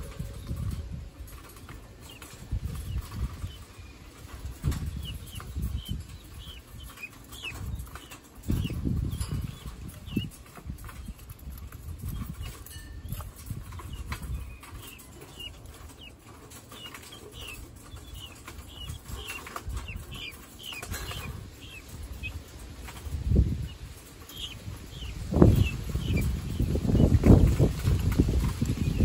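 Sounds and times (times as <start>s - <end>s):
guinea fowl peeping: 0.1s - 29.0s.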